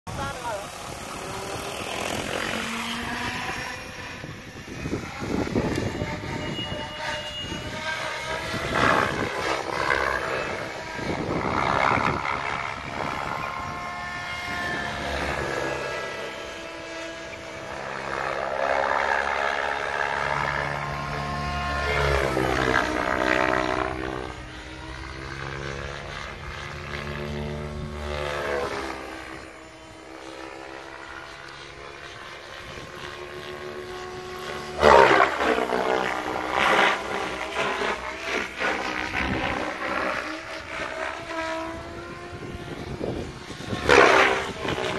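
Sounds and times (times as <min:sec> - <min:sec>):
model helicopter rotor whine: 0:00.1 - 0:44.9.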